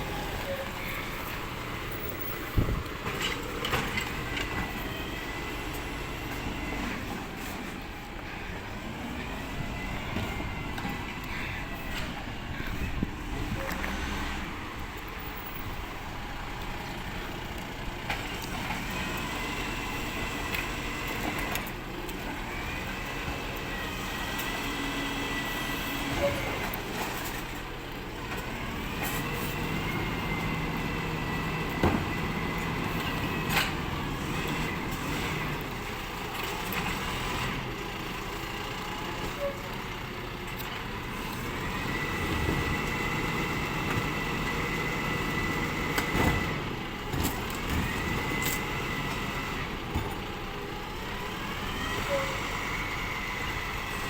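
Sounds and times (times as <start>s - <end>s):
truck running: 0.0s - 54.0s.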